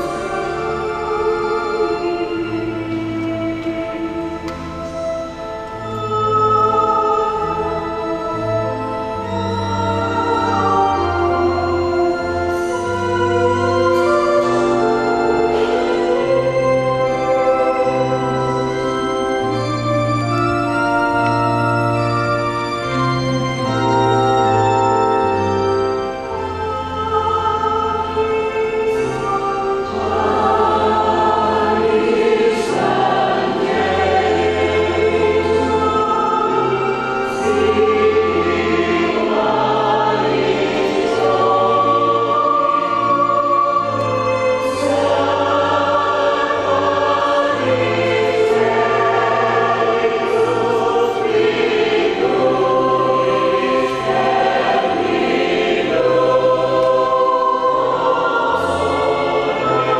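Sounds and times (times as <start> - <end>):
choir singing a hymn: 0.0 - 59.9
organ bass notes: 0.0 - 59.9.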